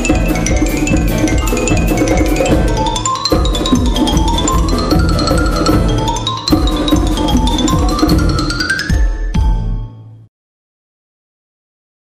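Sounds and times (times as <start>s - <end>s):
background music with steady beat: 0.0s - 10.3s.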